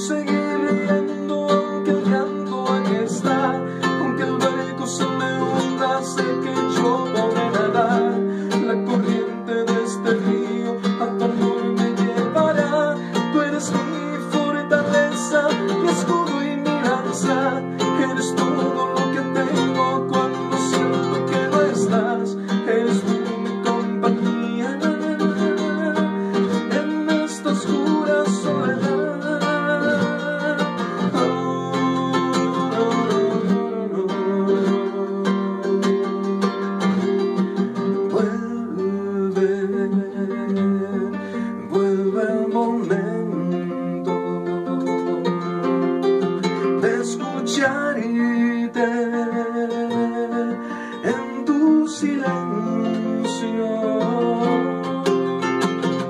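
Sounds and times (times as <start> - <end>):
guitar music with plucked chords: 0.0 - 56.0.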